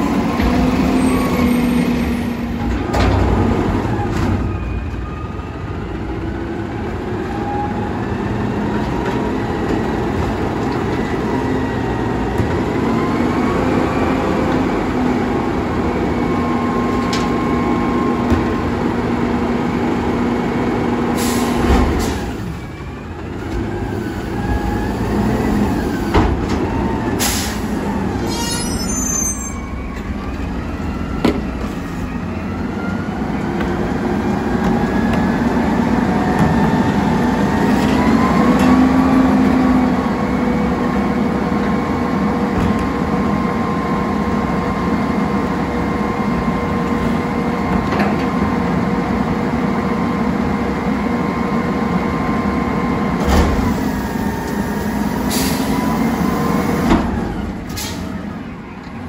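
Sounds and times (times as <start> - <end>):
truck engine and hydraulics whining: 0.0 - 59.0.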